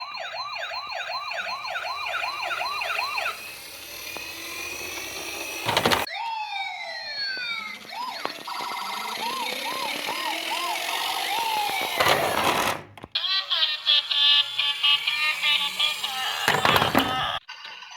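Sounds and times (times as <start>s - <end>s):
toy sirens wailing and yelping: 0.0s - 17.9s.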